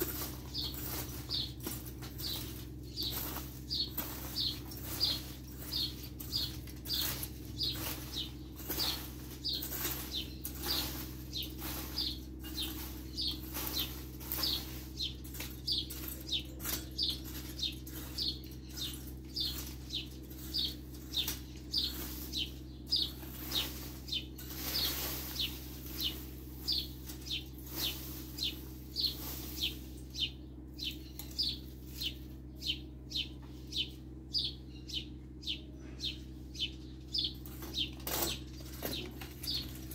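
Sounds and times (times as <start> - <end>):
rake scraping dirt: 0.0 - 35.0, 36.6 - 39.9.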